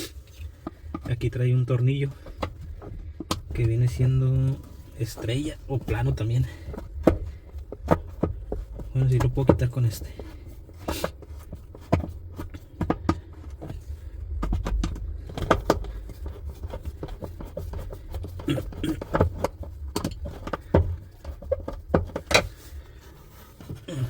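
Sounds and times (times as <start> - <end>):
low handling rumble: 0.2 - 24.0.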